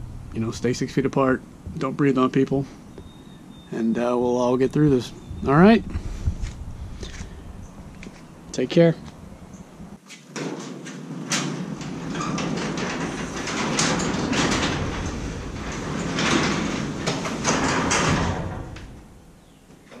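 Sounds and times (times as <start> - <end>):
metal garage door closing: 0.3 - 8.7, 10.2 - 20.0.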